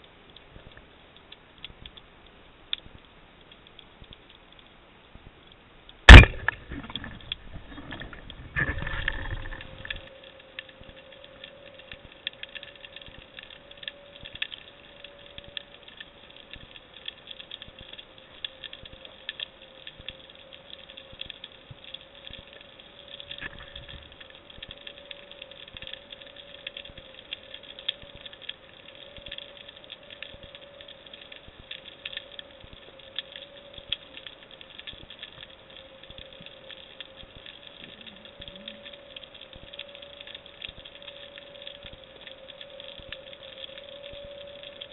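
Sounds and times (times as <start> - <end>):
faint steady hum: 0.0 - 44.9
underwater crackle of clicks: 0.0 - 44.9.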